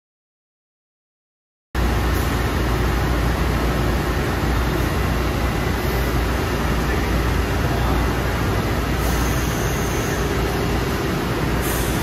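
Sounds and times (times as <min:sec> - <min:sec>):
machinery humming: 0:01.8 - 0:12.0.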